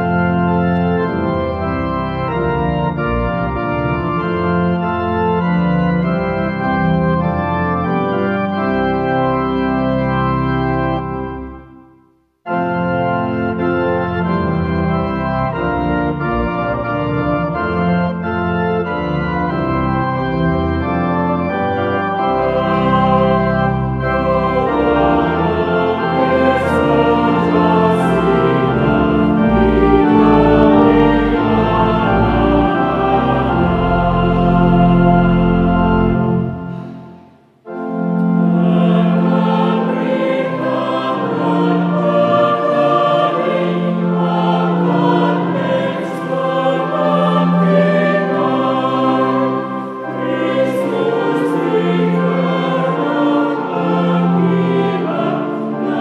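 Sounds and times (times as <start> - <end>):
organ playing hymn: 0.0 - 56.0.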